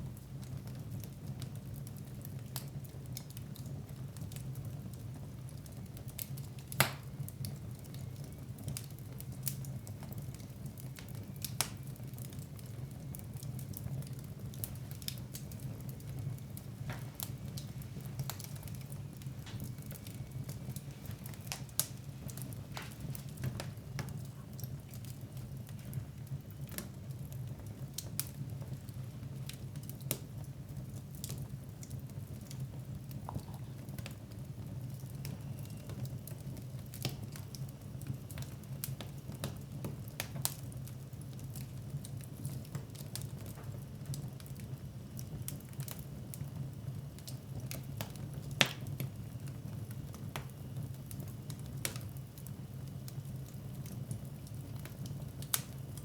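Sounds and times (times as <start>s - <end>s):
fire low rumble: 0.0s - 56.0s
wood fire crackling and popping: 0.0s - 56.0s.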